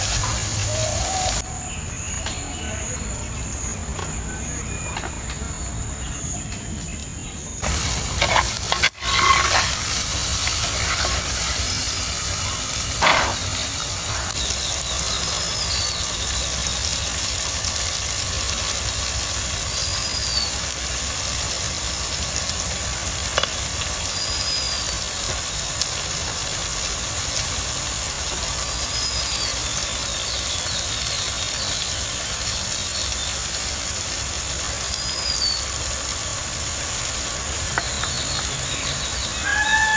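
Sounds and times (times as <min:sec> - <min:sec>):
food sizzling in a pot: 0:00.0 - 0:01.4, 0:07.6 - 0:39.9.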